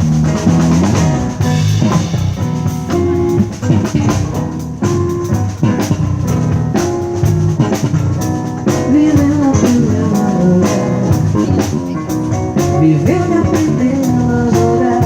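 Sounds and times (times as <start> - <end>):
live band playing: 0.0 - 15.0
steady drum beat: 0.0 - 15.0.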